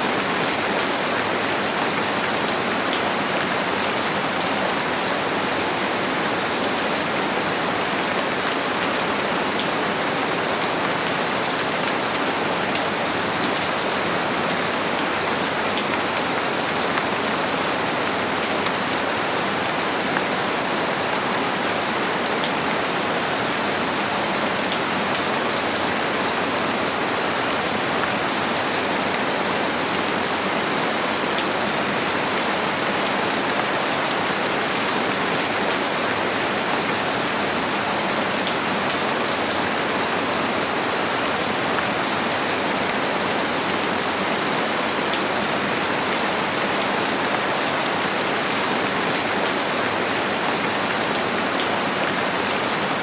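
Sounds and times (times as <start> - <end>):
rain pattering on surfaces: 0.0 - 53.0.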